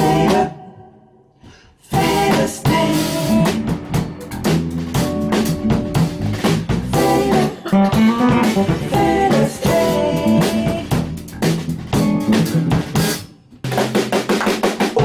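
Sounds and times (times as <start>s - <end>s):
electric bass: 0.0s - 0.5s, 1.9s - 14.3s
drum beat: 1.9s - 15.0s.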